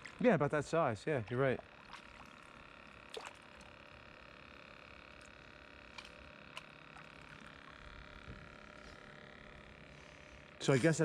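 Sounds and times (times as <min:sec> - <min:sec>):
faint outdoor hum: 0:00.0 - 0:11.0.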